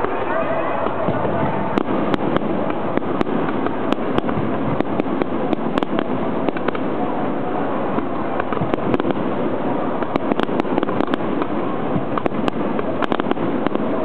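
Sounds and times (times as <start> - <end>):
firework shells bursting: 0.0 - 14.0.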